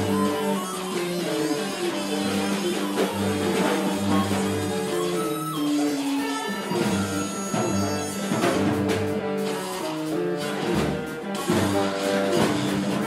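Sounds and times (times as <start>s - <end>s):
small live band playing: 0.0s - 13.0s.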